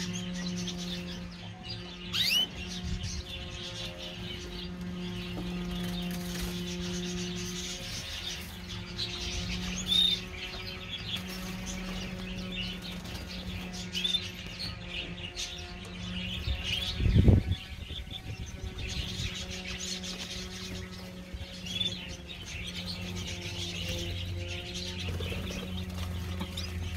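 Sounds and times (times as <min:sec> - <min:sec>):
small birds chirping: 0:00.0 - 0:26.9
steady low hum: 0:00.0 - 0:26.9.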